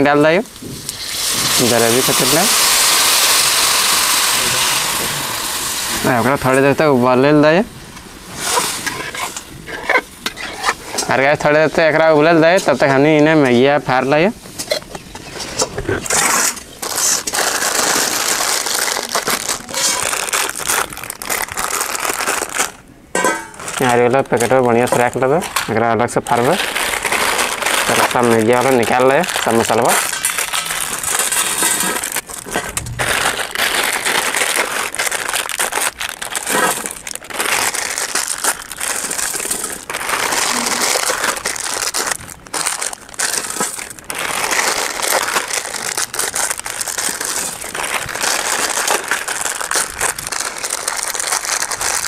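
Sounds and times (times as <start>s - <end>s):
plastic packet crinkling: 0.0s - 7.6s, 15.9s - 22.9s, 23.5s - 52.0s.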